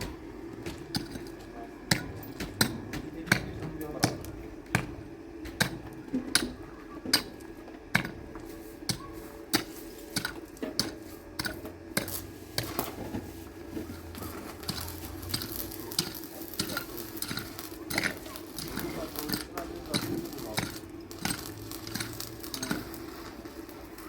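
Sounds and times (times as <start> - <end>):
hard objects clinking: 0.0 - 24.0
steady low hum: 0.0 - 24.0.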